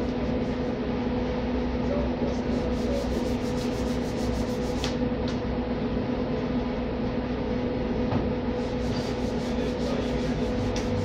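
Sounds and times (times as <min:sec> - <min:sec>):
workshop machinery hum: 0:00.0 - 0:11.0.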